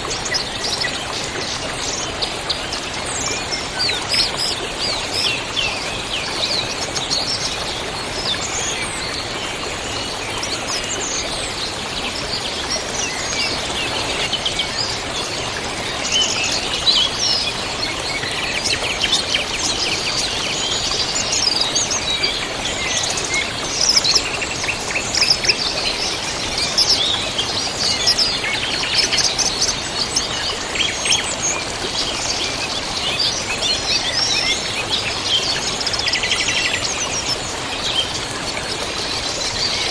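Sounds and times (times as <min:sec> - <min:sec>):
small birds chirping and trilling: 0:00.1 - 0:39.9
river rushing: 0:04.8 - 0:39.9.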